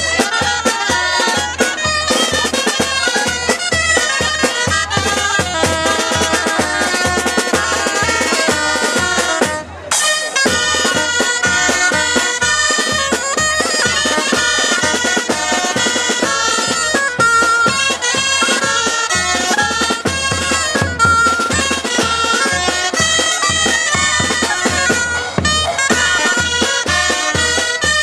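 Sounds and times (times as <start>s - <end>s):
bass drum and snare beat: 0.0s - 28.0s
reed shawms playing folk tune: 0.0s - 28.0s.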